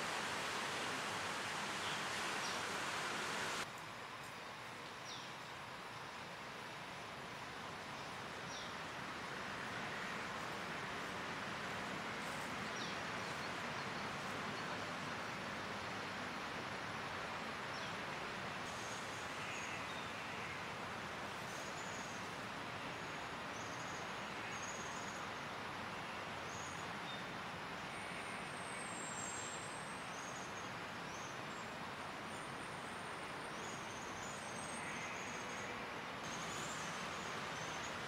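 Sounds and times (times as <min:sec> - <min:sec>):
distant city traffic hum: 0:00.0 - 0:03.7, 0:07.2 - 0:28.7, 0:29.8 - 0:38.0.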